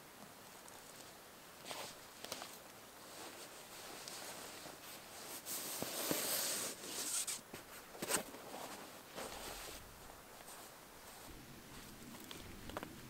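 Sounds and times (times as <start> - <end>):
firewood rustling and scraping: 1.6 - 13.0.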